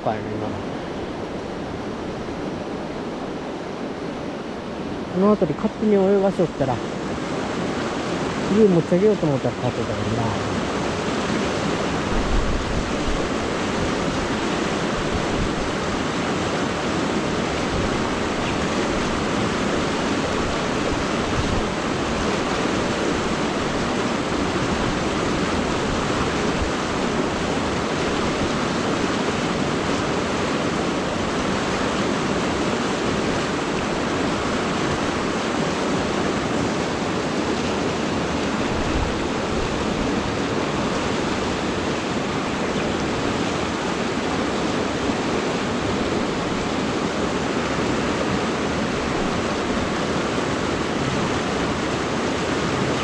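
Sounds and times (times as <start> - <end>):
river current rushing: 0.0 - 53.0.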